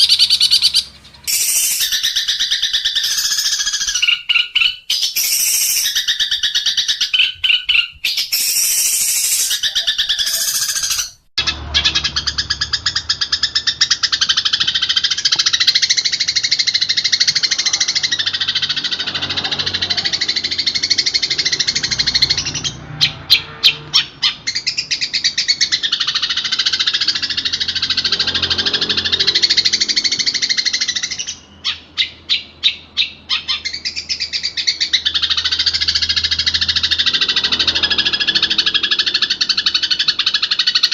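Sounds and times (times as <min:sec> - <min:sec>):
songbird warbling: 0:00.0 - 0:40.9.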